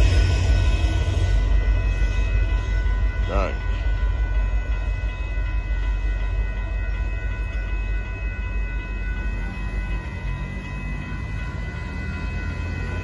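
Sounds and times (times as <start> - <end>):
freight train rumbling past: 0.0 - 13.0
steady high ringing tones: 0.0 - 13.0.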